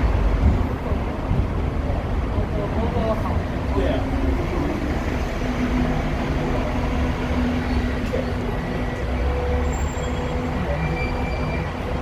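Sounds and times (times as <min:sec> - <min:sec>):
tram motor hum: 0:00.0 - 0:12.0
tram rumbling on track: 0:00.0 - 0:12.0.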